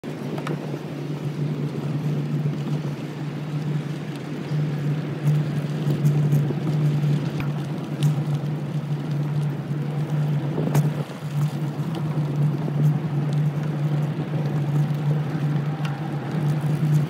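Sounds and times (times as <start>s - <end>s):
small vehicle motor running: 0.1s - 17.0s.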